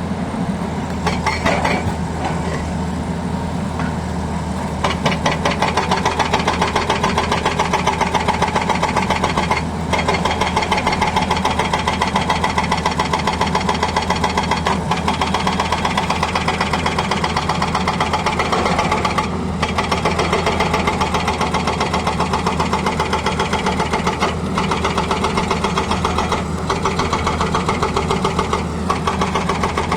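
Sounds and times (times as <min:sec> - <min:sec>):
excavator engine running: 0:00.0 - 0:29.9
hydraulic breaker hammering: 0:00.9 - 0:02.9, 0:03.6 - 0:29.9.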